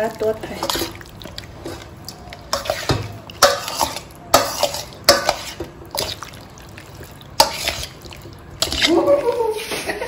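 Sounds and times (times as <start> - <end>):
chicken being mixed in a bowl: 0.0 - 10.0.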